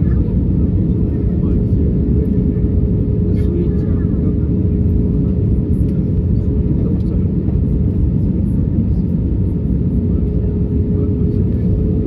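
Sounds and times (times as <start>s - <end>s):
airliner engine rumble: 0.0s - 12.0s
constant hum: 0.0s - 12.0s.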